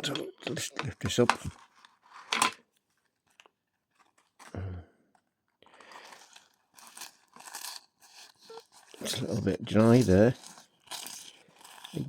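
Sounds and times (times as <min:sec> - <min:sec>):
paper rustling and crinkling: 0:01.4 - 0:04.5, 0:05.2 - 0:12.0.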